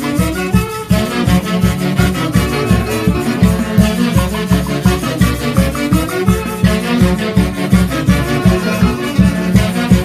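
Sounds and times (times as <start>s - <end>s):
brass band playing lively tune: 0.0s - 10.0s
bass drum beat: 0.9s - 10.0s.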